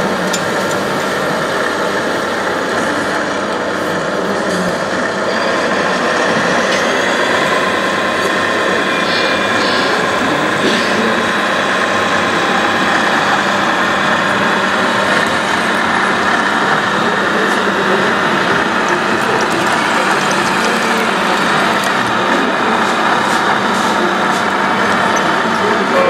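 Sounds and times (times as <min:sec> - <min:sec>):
hydraulic tipping gear running: 0:04.8 - 0:26.0.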